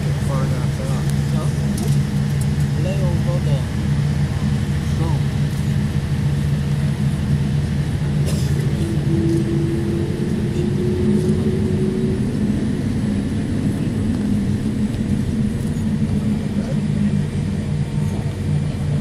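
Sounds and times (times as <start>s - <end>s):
airplane taxiing rumble: 0.0s - 19.0s
faint steady whine: 0.0s - 19.0s.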